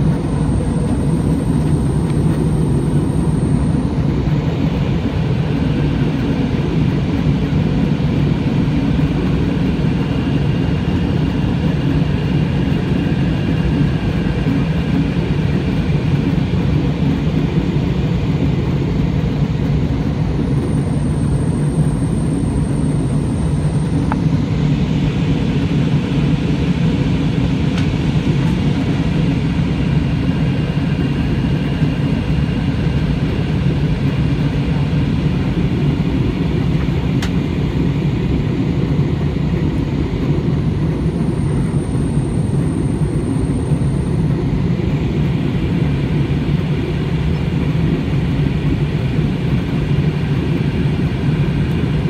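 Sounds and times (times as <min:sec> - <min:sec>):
jet airliner cabin noise: 0:00.0 - 0:52.0.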